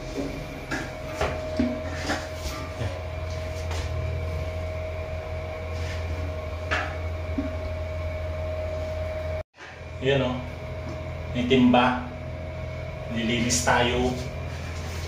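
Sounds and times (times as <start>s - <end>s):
lift machinery hum and whine: 0.0s - 15.0s.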